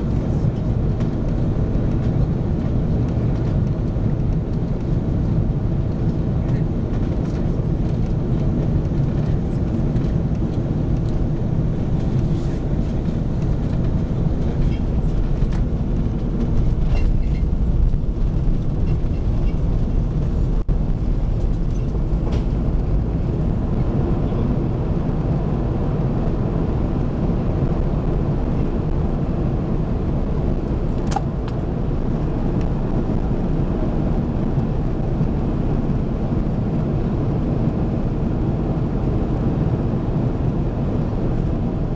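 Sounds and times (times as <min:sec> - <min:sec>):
airliner cabin engine rumble: 0:00.0 - 0:41.9.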